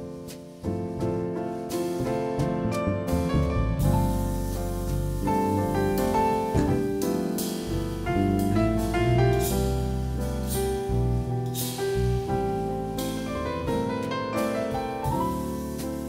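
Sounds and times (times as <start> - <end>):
grand piano: 0.0 - 16.0
jazz combo playing: 0.0 - 16.0
bass line: 0.7 - 16.0.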